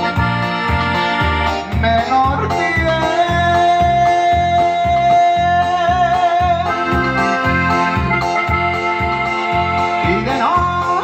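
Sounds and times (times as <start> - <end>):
accordion holding long notes: 0.0 - 11.0
steady bass beat: 0.0 - 11.0.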